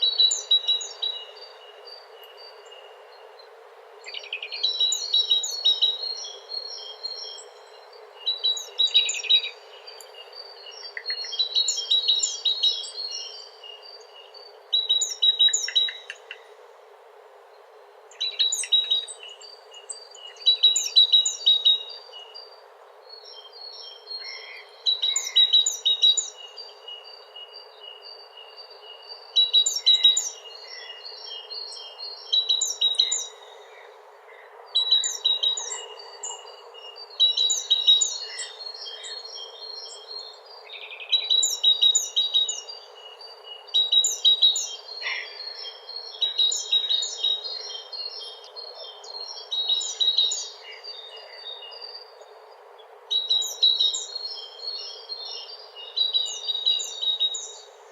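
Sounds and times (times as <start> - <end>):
faint background hiss: 0.0 - 57.9
songbirds chirping: 0.0 - 57.9.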